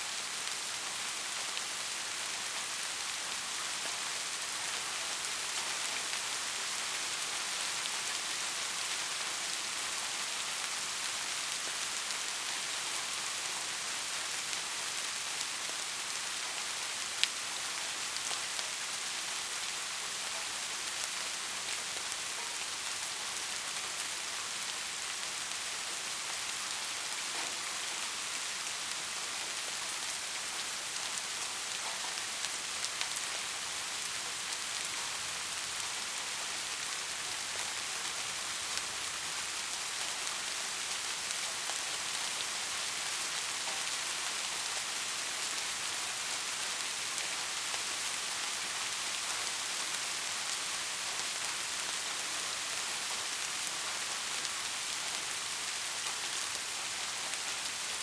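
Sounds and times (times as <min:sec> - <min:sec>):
rain hissing on a surface: 0:00.0 - 0:58.0.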